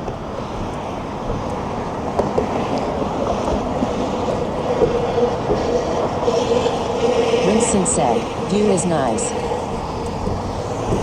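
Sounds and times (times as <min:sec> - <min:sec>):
motor traffic: 0:00.0 - 0:11.0.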